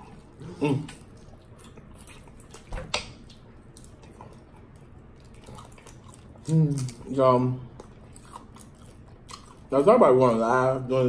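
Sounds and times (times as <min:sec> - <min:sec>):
chewing: 0:00.0 - 0:10.5.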